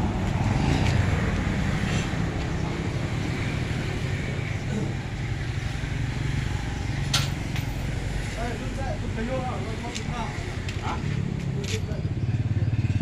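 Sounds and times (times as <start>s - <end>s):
diesel engine running: 0.0s - 12.2s.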